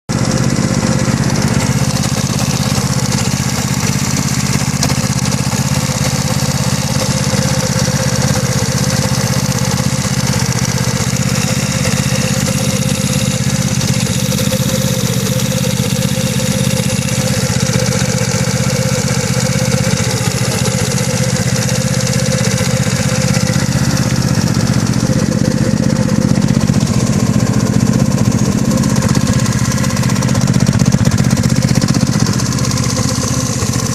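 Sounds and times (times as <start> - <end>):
engine knocking: 0.1 - 33.9
scooter engine idling: 0.1 - 33.9.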